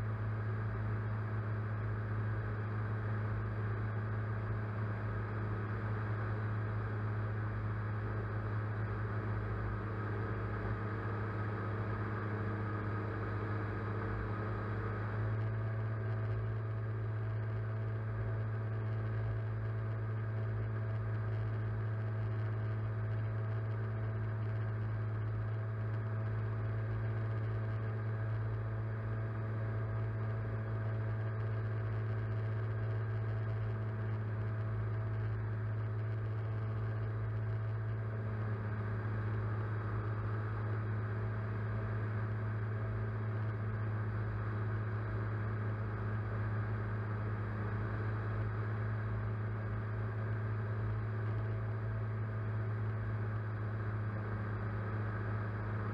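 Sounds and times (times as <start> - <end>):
faint propeller whine: 0.0 - 55.9.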